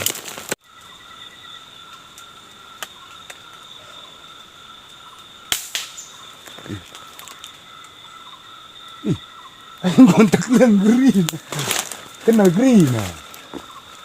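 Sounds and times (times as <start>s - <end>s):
high buzzing of insects: 0.0s - 14.0s.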